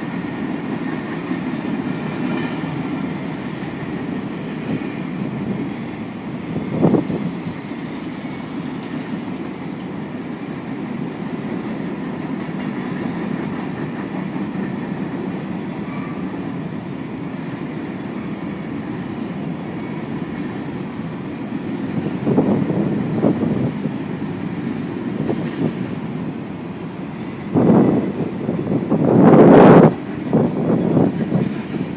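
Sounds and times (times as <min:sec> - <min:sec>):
loud knocks of railcars: 0:00.0 - 0:26.2, 0:29.1 - 0:31.9
railcars rolling past: 0:00.0 - 0:31.9.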